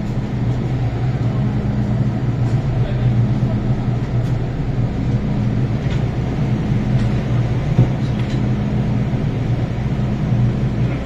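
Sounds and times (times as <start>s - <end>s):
train car low hum: 0.0s - 11.0s.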